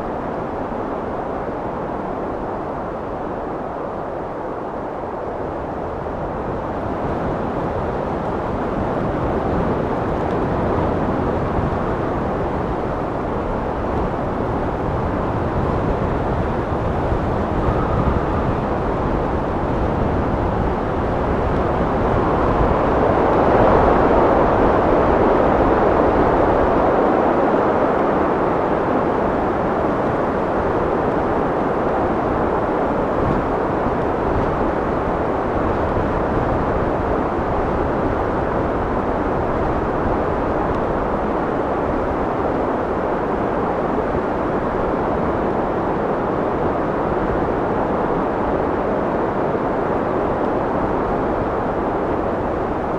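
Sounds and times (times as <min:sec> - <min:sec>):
wind blowing: 0:00.0 - 0:52.9.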